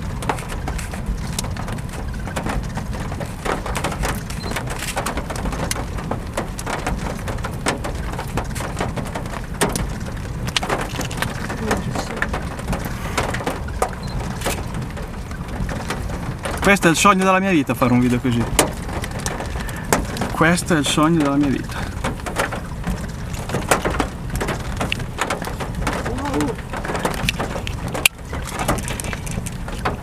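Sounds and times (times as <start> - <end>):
low rumble: 0.0 - 30.0
storm rain pattering: 0.0 - 30.0.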